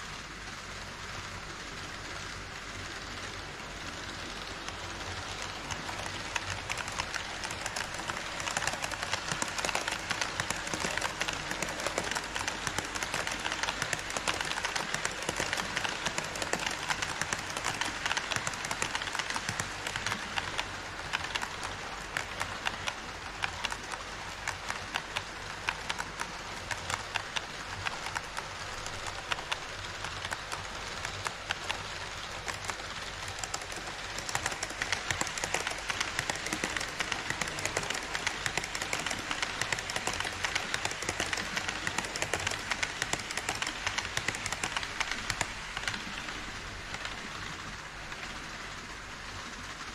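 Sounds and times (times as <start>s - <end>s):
model trains rattling on track: 0.0s - 49.9s
wheels clicking over rail joints: 0.0s - 49.9s.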